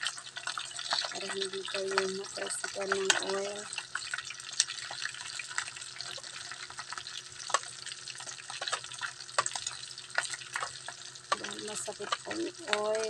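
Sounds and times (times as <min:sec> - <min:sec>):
oil popping: 0:00.0 - 0:12.9
fish sizzling in hot oil: 0:00.0 - 0:13.0
metal spatula turning food: 0:00.0 - 0:13.0.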